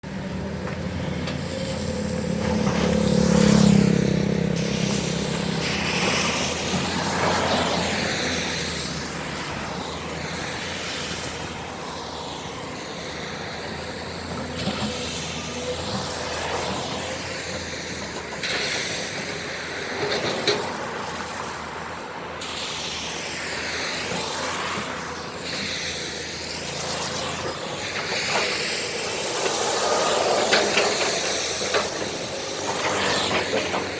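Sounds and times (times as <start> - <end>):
vehicles passing by: 0.0 - 33.9.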